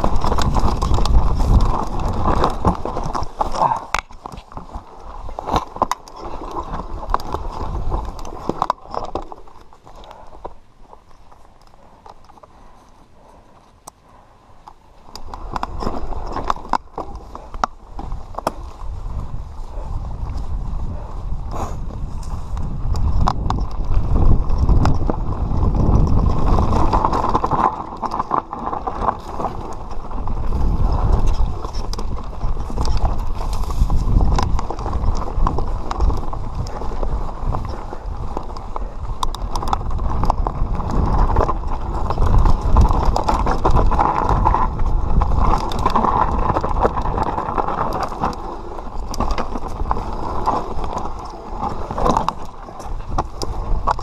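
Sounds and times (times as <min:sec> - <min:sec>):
wind buffeting microphone: 0:00.0 - 0:08.7, 0:15.2 - 0:54.0
bike rattling over bumps: 0:00.0 - 0:13.6, 0:15.2 - 0:54.0
tyres crunching on dirt: 0:00.0 - 0:13.6, 0:15.1 - 0:54.0.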